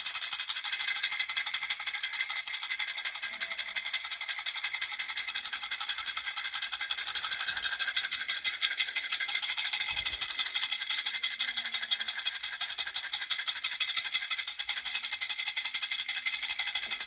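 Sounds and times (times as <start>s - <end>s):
baby rattle shaking: 0.0s - 17.0s.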